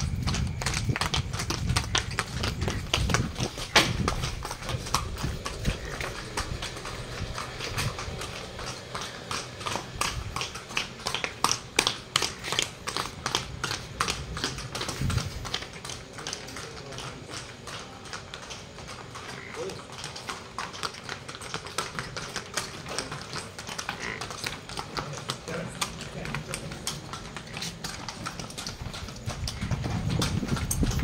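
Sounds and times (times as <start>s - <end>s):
hooves clopping on hard ground: 0.0s - 31.0s.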